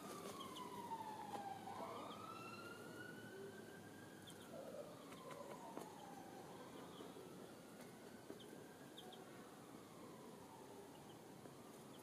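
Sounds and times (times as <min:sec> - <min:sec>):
faint siren wailing: 0:00.0 - 0:12.0.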